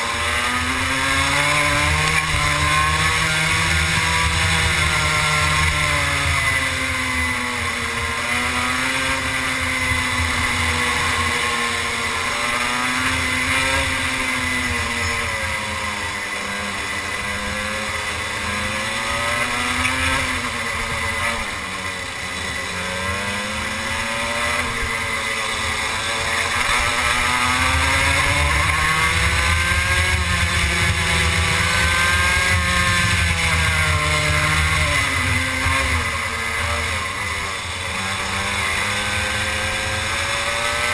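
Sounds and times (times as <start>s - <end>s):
two-stroke kart engine racing: 0.0s - 40.9s.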